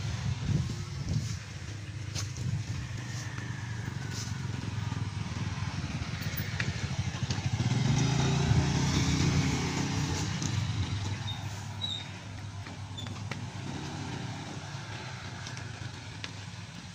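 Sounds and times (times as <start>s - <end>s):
motorbike engine running: 0.0s - 16.9s
road traffic: 0.0s - 16.9s.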